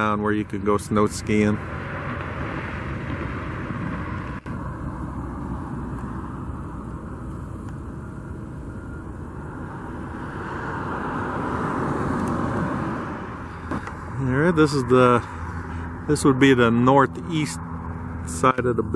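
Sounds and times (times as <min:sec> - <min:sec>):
road traffic passing: 0:00.0 - 0:18.9.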